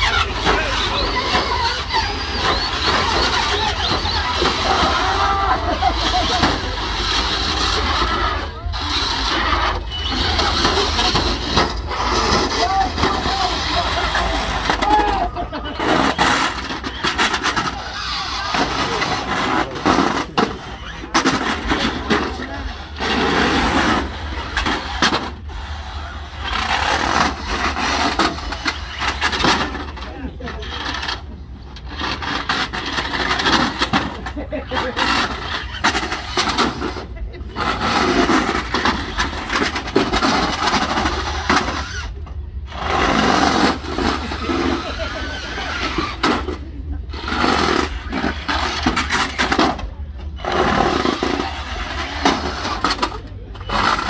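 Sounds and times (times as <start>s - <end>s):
toy cars scraping and knocking: 0.0s - 54.0s.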